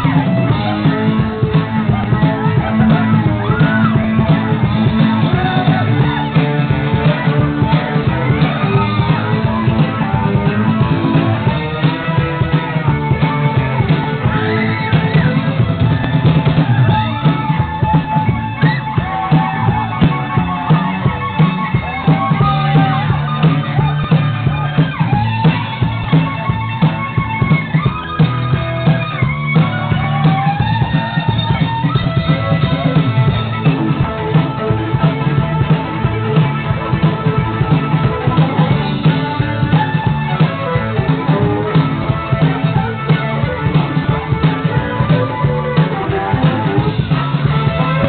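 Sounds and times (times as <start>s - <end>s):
folk-rock band playing dance tune: 0.0s - 48.0s.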